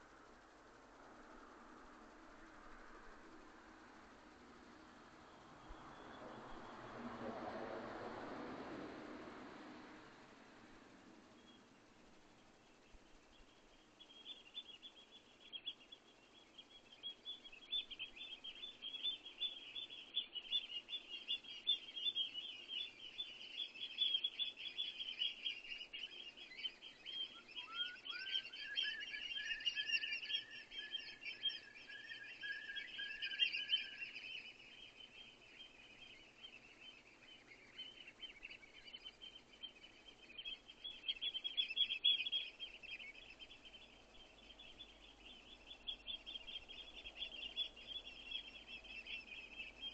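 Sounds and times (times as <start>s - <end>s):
songbirds twittering: 0.0s - 49.9s.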